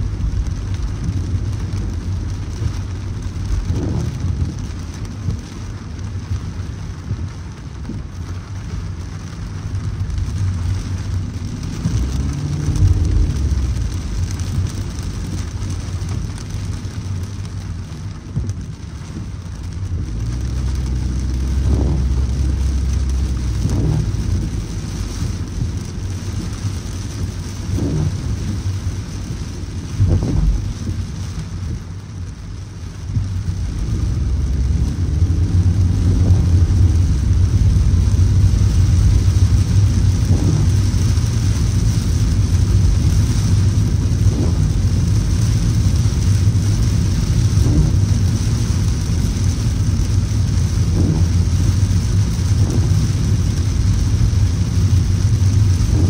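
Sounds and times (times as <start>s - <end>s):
heavy rain on a car: 0.0s - 56.0s
road noise rumble: 0.0s - 56.0s.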